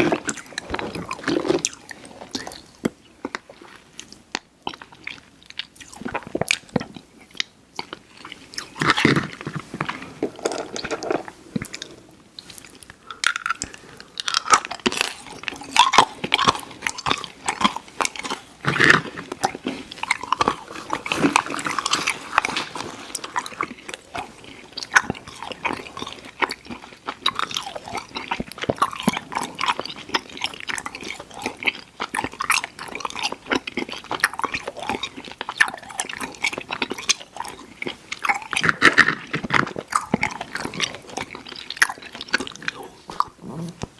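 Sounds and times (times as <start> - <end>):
mouth chewing sticky candy: 0.0 - 43.9.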